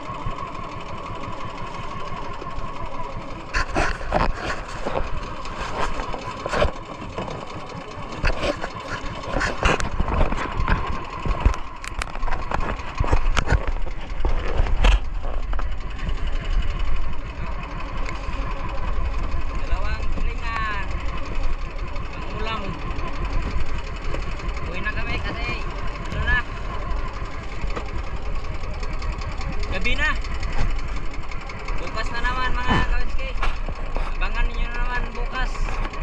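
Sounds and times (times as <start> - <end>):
small boat engine running: 0.0 - 36.0.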